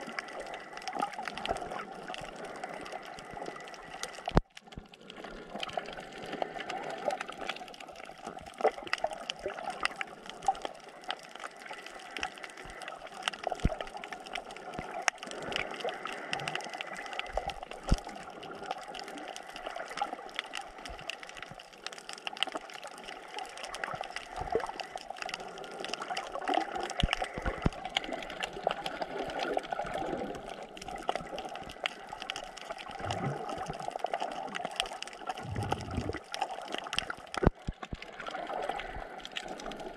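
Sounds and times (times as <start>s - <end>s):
small clicks and crackles: 0.0s - 39.9s
underwater water gurgling: 0.0s - 39.9s.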